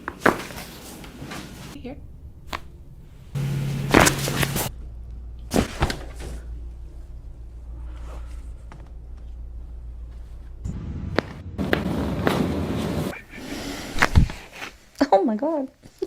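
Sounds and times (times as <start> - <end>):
steady low hum: 1.7 - 14.9.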